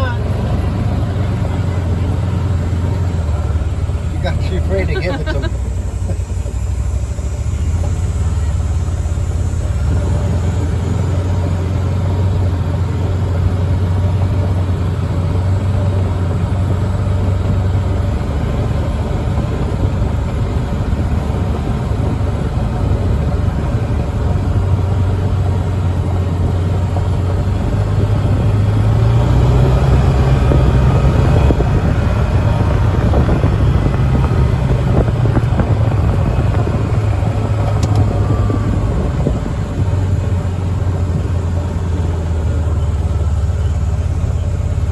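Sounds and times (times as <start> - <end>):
rumbling road noise: 0.0 - 44.9
vehicle engine running: 0.0 - 44.9.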